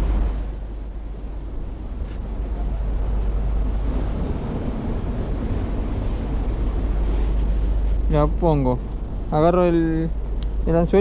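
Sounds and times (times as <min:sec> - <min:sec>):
sea washing against breakwater: 0:00.0 - 0:11.0
wind rumbling on microphone: 0:00.0 - 0:11.0.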